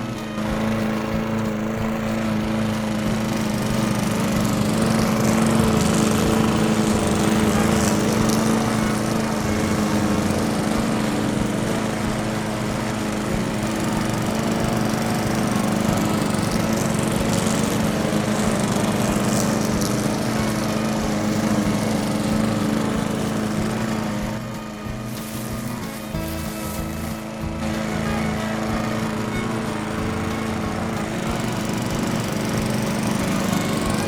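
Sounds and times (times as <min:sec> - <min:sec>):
small motor running: 0:00.0 - 0:34.0.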